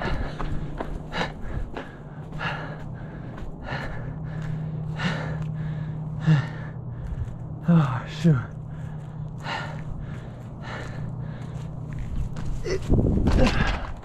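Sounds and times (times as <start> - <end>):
person gasping for breath: 0.0 - 8.0, 8.6 - 14.0
steady low hum: 0.0 - 14.0.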